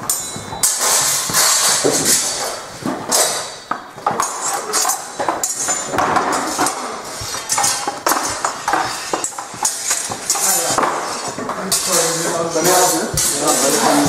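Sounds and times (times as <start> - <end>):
swords clashing metallic clanks: 0.0 - 14.0.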